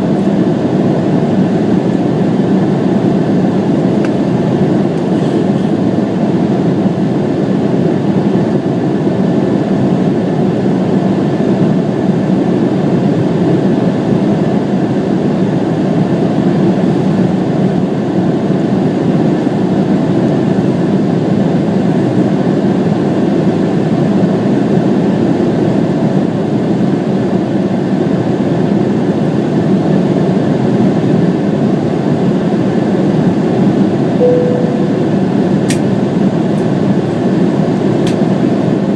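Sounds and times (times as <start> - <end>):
jet engine roar in aircraft cabin: 0.0 - 38.9.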